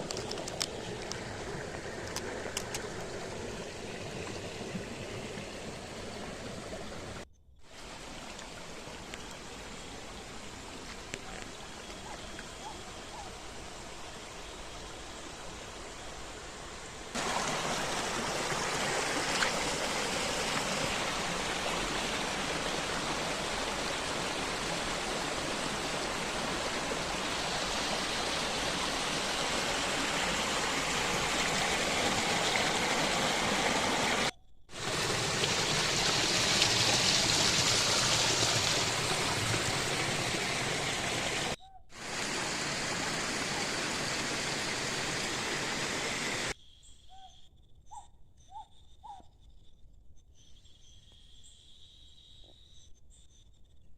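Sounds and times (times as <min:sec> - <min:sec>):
rush of flowing water: 0:00.0 - 0:12.5, 0:13.4 - 0:46.5.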